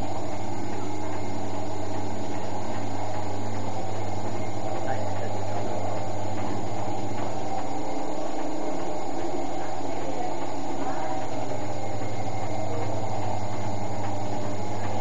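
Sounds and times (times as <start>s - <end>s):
coffee grinder whirring: 0.0s - 15.0s.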